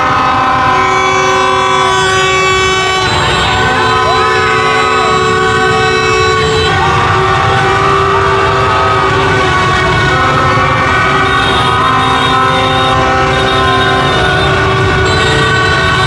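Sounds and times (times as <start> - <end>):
many horns honking: 0.0 - 16.0.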